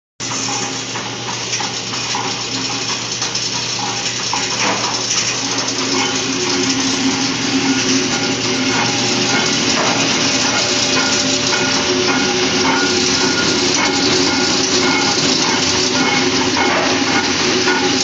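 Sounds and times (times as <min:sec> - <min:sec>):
machine humming and rattling: 0:00.2 - 0:18.0.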